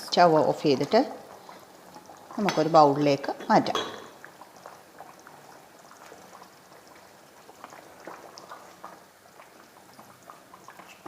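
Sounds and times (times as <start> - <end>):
curry bubbling with small pops: 0.0 - 11.0.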